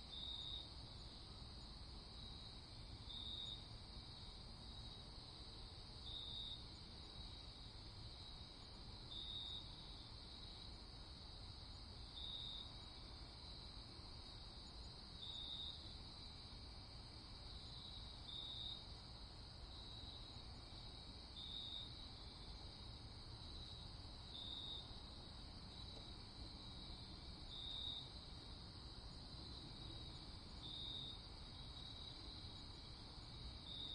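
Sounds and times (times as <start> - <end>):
crickets chirping: 0.0 - 33.9
loud short cricket chirp: 0.1 - 10.8, 11.4 - 33.9.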